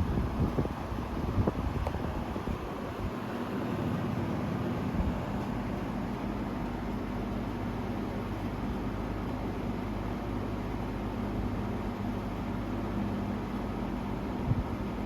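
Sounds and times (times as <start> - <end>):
box fan running: 0.0 - 15.0.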